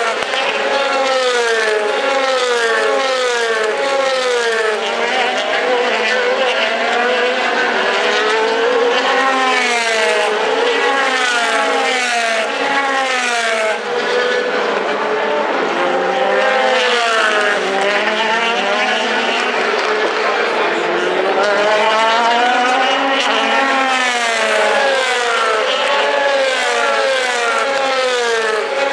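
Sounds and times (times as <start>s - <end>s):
race car engines at speed: 0.0s - 28.9s.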